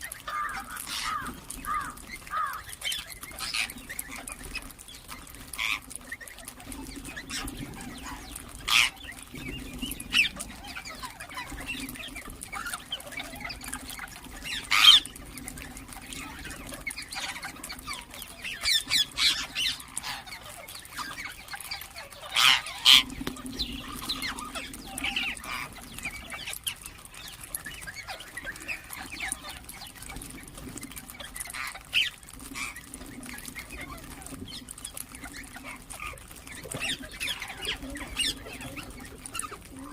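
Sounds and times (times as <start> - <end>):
parakeets shrill calls: 0.0 - 39.9.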